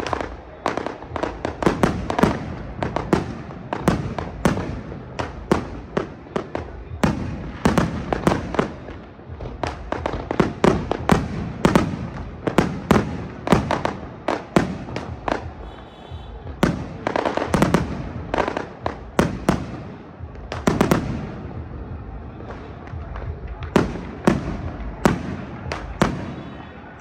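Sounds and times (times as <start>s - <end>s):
fireworks bangs and cracks: 0.0s - 27.0s.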